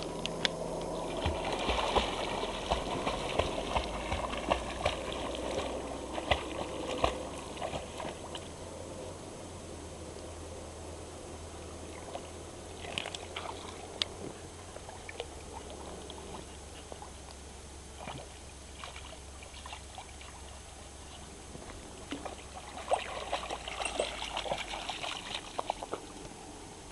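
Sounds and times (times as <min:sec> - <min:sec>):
puppy splashing in water: 0:00.6 - 0:08.6, 0:12.0 - 0:17.2, 0:17.9 - 0:26.4.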